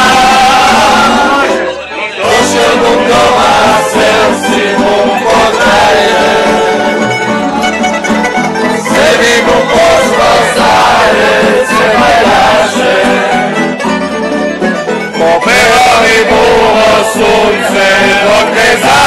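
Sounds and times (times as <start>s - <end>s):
men singing loudly: 0.0s - 7.0s, 8.8s - 13.7s, 15.2s - 19.0s
strummed string instruments: 0.0s - 19.0s
upright bass: 0.0s - 19.0s.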